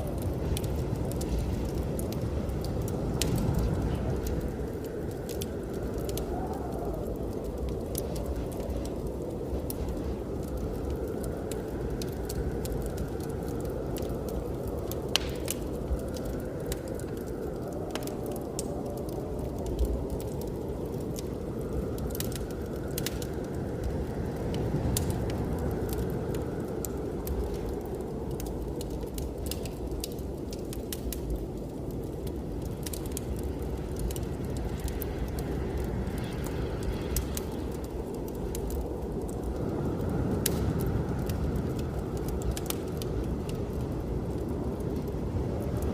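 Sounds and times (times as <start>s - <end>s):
blizzard wind gusting: 0.0s - 45.9s
wood fire crackling: 0.0s - 45.9s.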